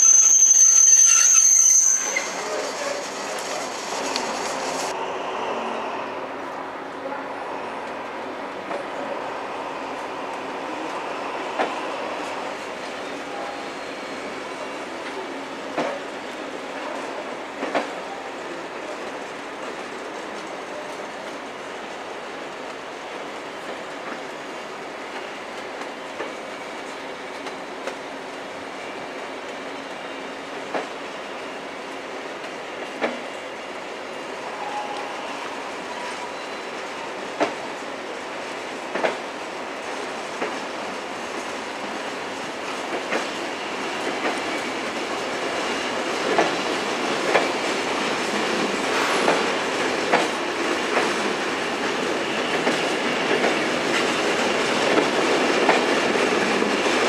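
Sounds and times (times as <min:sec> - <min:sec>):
passenger train rolling past: 0:00.0 - 0:57.0.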